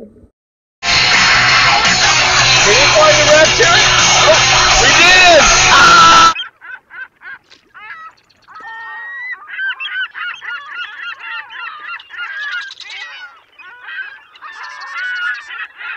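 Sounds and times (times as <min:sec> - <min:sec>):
flock of birds calling: 0:01.8 - 0:15.9.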